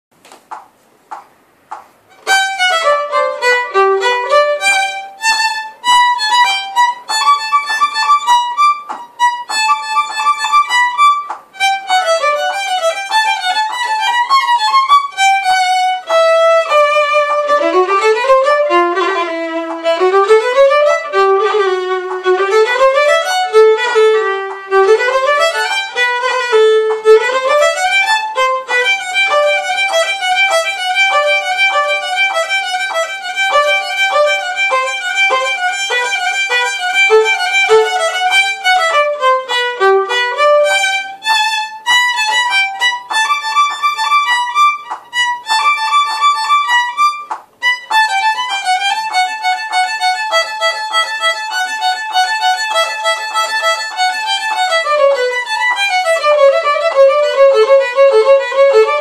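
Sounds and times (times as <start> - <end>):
solo violin bowed: 2.1 - 59.0.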